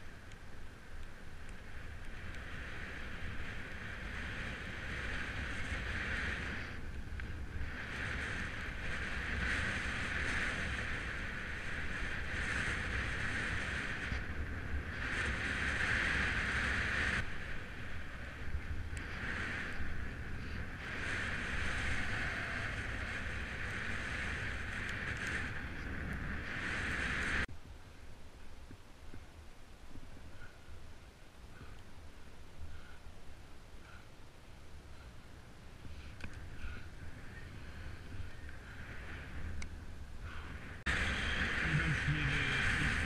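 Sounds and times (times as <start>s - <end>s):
wind rushing over microphone: 0.0s - 27.6s, 33.6s - 43.0s.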